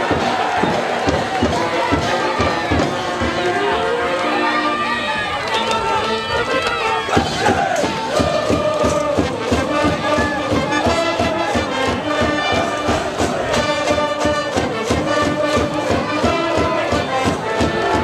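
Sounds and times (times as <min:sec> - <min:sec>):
steady drumbeat: 0:00.0 - 0:04.0, 0:07.0 - 0:18.0
brass band playing: 0:00.0 - 0:18.0
crowd chanting: 0:00.0 - 0:18.0.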